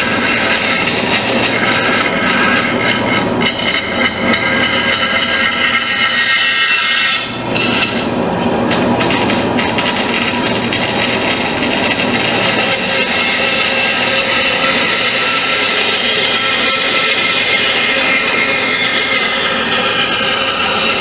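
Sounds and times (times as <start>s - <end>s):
power saw cutting wood: 0.0s - 21.0s.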